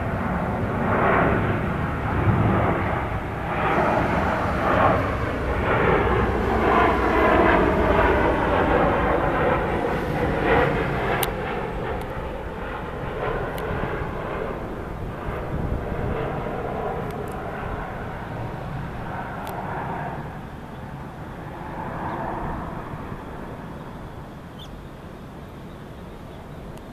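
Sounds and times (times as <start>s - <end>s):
jet engine rumble: 0.0s - 26.9s.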